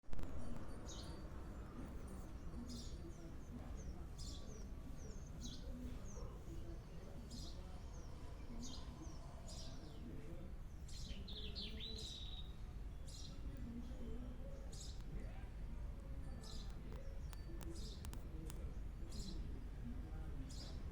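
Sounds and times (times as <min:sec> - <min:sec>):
songbirds chirping: 0:00.1 - 0:20.9.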